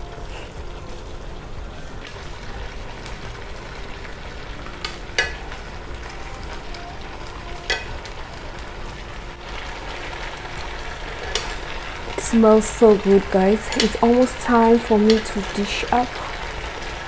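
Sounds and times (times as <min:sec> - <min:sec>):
meat sizzling in frying pan: 0:00.0 - 0:17.0.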